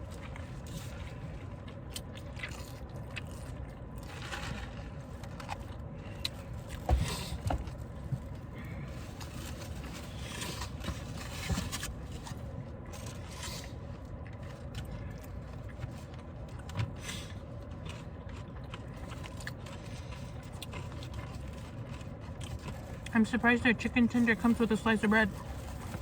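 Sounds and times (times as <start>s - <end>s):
person chewing: 0.0s - 11.4s, 12.2s - 23.1s
low background rumble: 0.0s - 26.0s.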